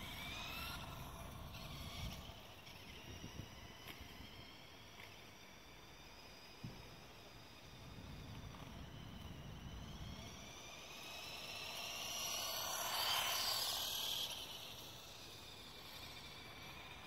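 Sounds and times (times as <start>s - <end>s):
toy motorcycle motor whine passing: 0.0s - 17.0s.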